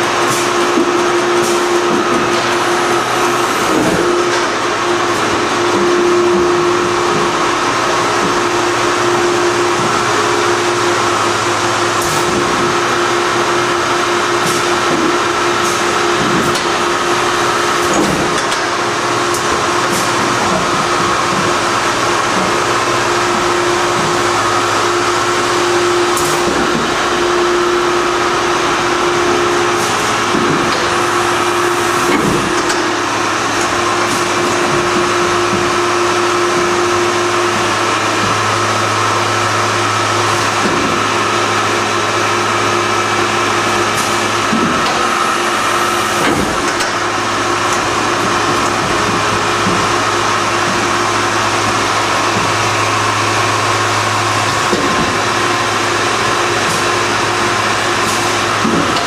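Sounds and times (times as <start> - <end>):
machine humming loudly: 0.0 - 59.0.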